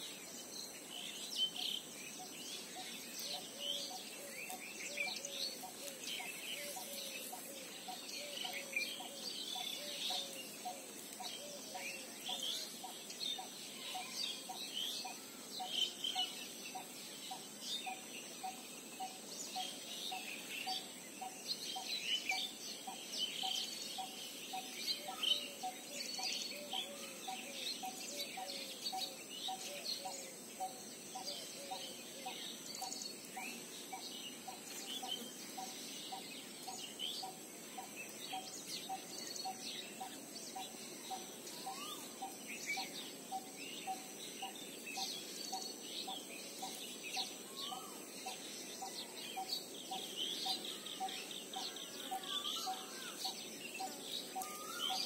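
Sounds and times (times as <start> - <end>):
low repeated bird call: 0.0 - 55.0.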